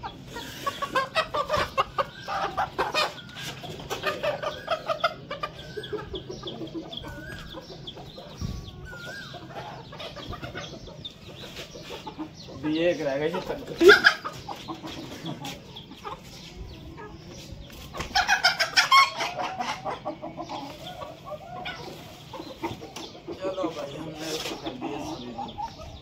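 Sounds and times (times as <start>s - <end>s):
chickens clucking and squawking: 0.0s - 26.0s.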